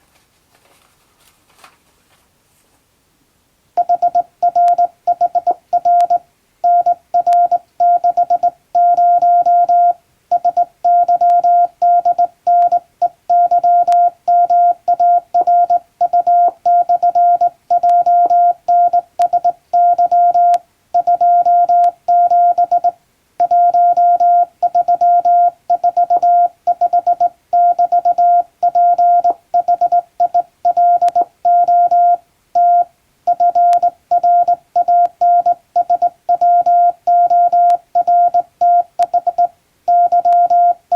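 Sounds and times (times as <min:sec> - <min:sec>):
morse code beeps: 0:03.8 - 0:40.8.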